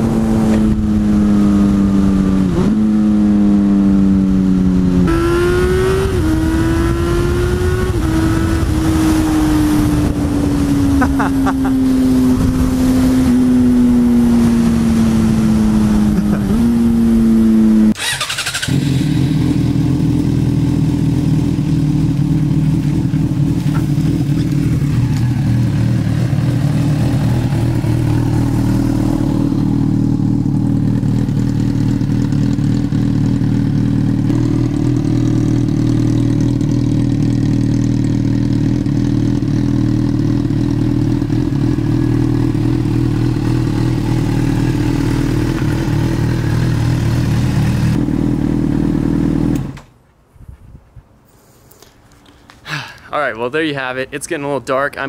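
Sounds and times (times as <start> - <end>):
motorcycle engine running steadily: 0.0 - 49.9.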